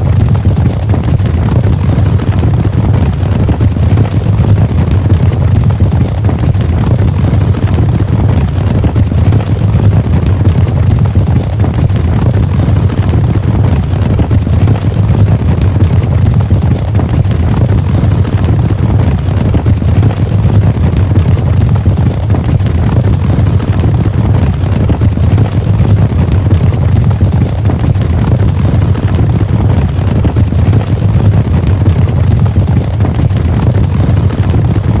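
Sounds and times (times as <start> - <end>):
horses galloping: 0.0 - 34.6.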